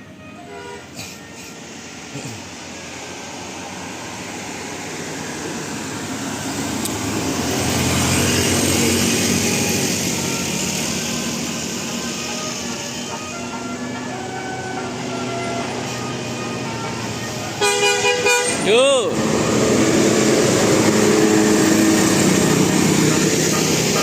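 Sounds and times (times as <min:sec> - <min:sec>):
heavy vehicle driving past: 0:01.1 - 0:24.0.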